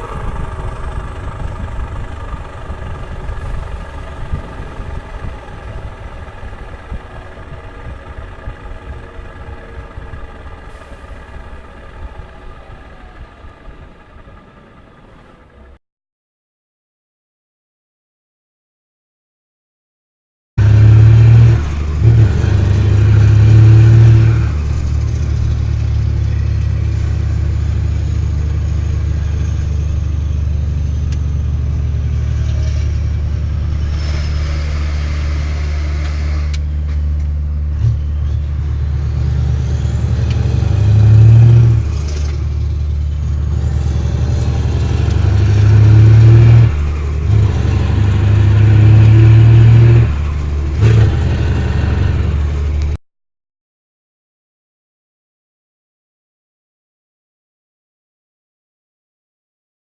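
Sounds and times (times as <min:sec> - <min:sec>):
diesel engine rumbling: 0:00.0 - 0:15.8, 0:20.6 - 0:53.0.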